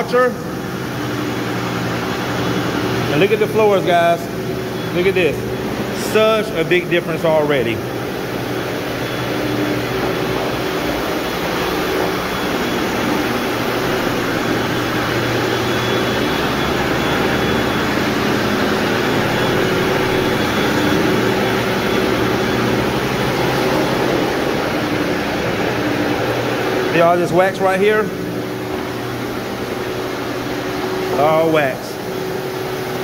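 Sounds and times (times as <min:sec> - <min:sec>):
floor cleaning machines running: 0:00.0 - 0:33.0.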